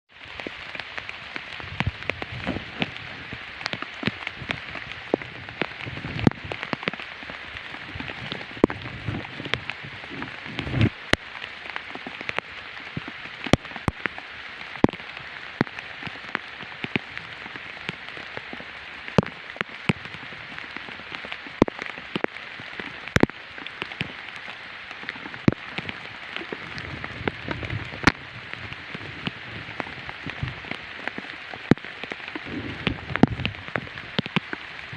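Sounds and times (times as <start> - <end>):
rain hissing: 0.1 - 34.9
raindrops ticking on surfaces: 0.1 - 34.9.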